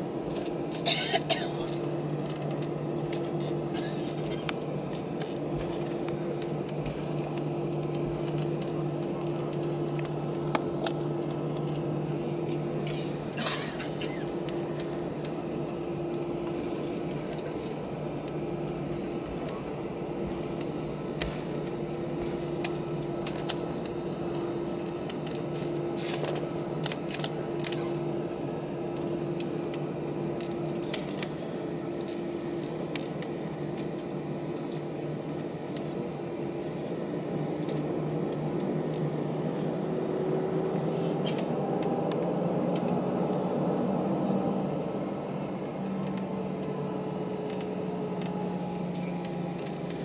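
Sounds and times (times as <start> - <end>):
jet engines idling cabin hum: 0.0 - 50.0.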